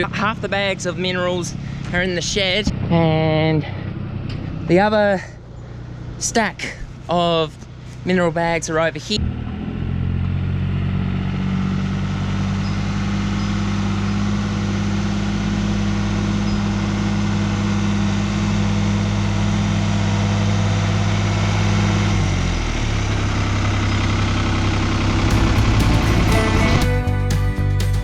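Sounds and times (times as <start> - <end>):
tractor engine running: 0.0 - 8.2, 9.0 - 28.0.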